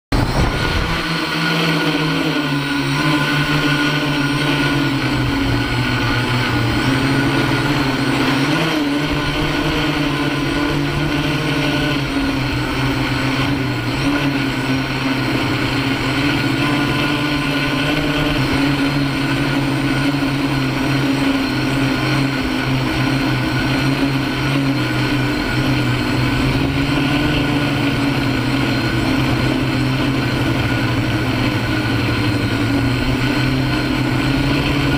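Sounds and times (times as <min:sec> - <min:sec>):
drone motors and propellers droning: 0:00.0 - 0:34.9
wind rumbling on microphone: 0:00.1 - 0:34.9.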